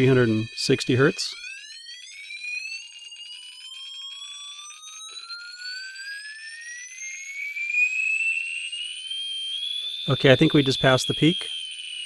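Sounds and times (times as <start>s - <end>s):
piezo buzzer beep rising in pitch: 0.0s - 12.0s.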